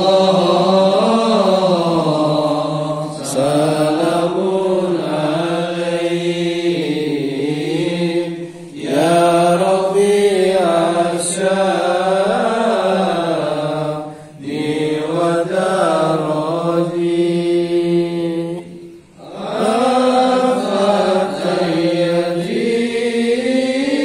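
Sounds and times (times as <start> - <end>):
men chanting devotional praises: 0.0 - 24.0.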